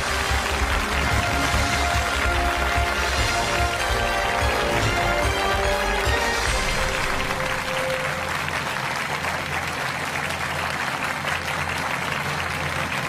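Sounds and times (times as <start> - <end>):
studio audience applauding: 0.0 - 13.0.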